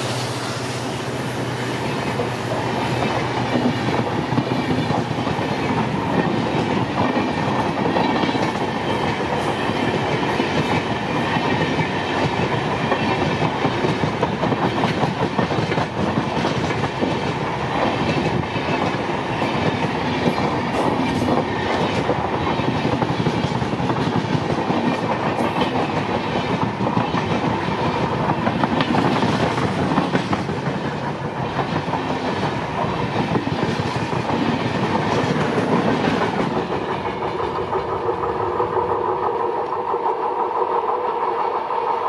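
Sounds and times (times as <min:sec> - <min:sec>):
train wheels clattering on rails: 0:00.0 - 0:42.0.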